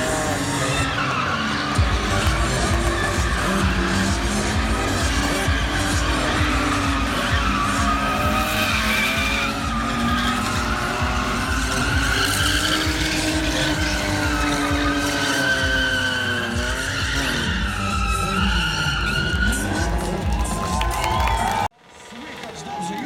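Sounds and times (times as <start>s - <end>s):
engine revving: 0.0s - 22.6s
tyres squealing and skidding: 0.0s - 23.0s.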